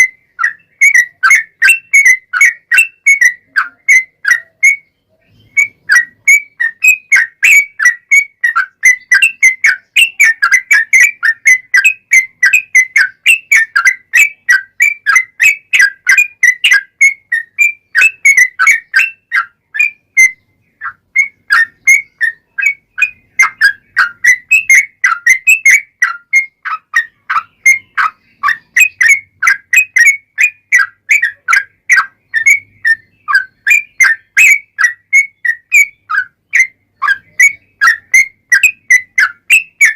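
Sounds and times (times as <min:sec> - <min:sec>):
bird chattering whistled song: 0:00.0 - 0:39.9.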